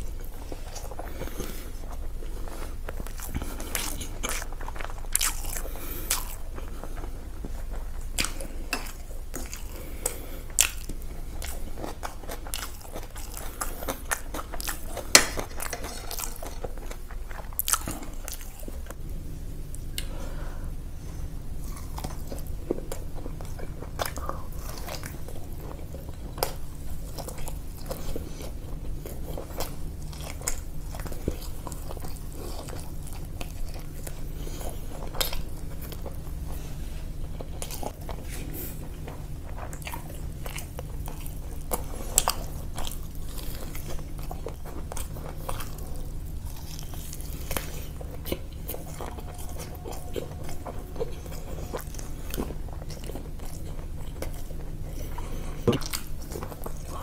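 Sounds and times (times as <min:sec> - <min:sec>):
person chewing crunchy food: 0:00.0 - 0:57.0
steady low hum: 0:00.0 - 0:57.0.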